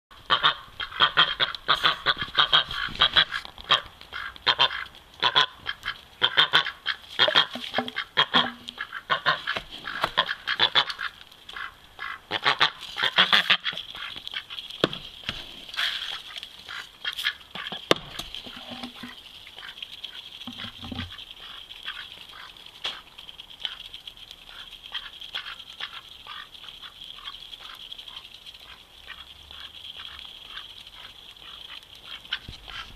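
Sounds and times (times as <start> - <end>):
ducks pecking grain: 0.1 - 32.9
ducks quacking: 0.2 - 14.6, 15.8 - 23.0, 24.5 - 32.9.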